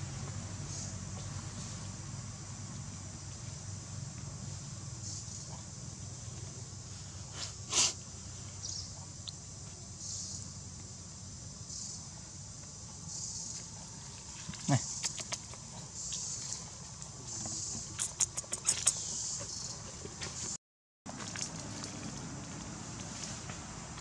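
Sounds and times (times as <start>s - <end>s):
insects chirring: 0.4s - 20.6s.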